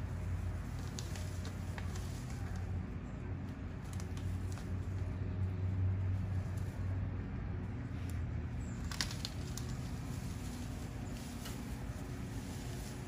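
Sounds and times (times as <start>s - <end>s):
low mechanical hum: 0.0s - 13.0s
rustling of leaves: 0.0s - 13.0s.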